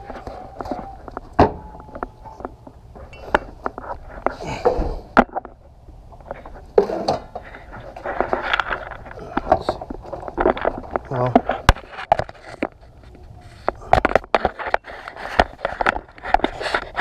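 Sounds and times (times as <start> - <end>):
rustling handling noise: 0.0 - 17.0.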